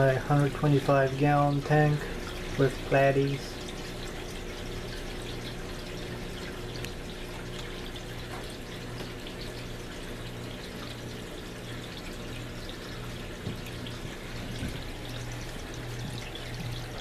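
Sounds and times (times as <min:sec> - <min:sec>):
aquarium water trickling: 0:00.0 - 0:17.0
water drips: 0:00.0 - 0:17.0.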